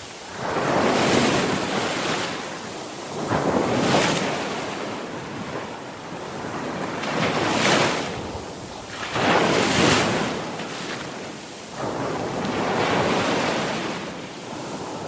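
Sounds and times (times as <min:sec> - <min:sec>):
waves crashing on shore: 0:00.0 - 0:15.0.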